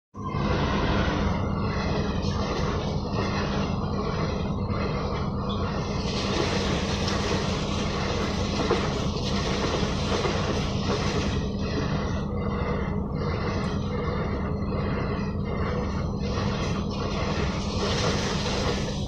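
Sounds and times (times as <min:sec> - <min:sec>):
train rumbling on rails: 0:00.2 - 0:19.0.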